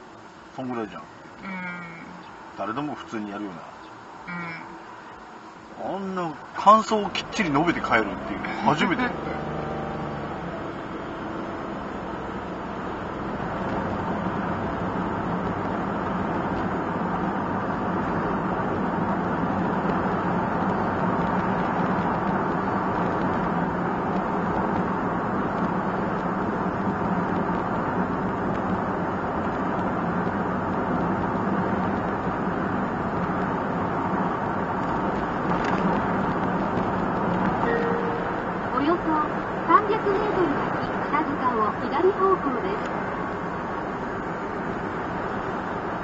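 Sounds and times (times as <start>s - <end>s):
engine and road noise in van: 0.0s - 46.0s.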